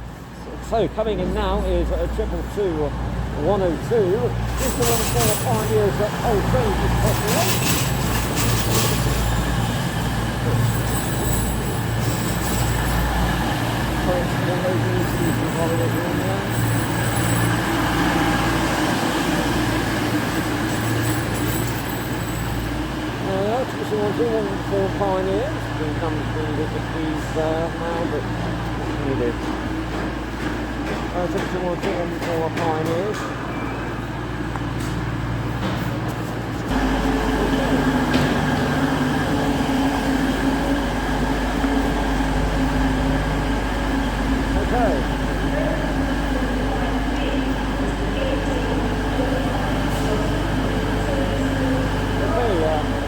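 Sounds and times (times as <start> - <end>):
train diesel engines droning: 0.0 - 53.0.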